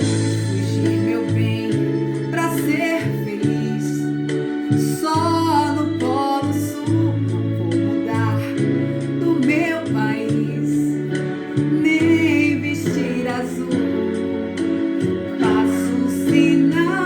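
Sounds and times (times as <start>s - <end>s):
instrumental accompaniment with bass: 0.0s - 17.0s
person singing: 0.0s - 17.0s.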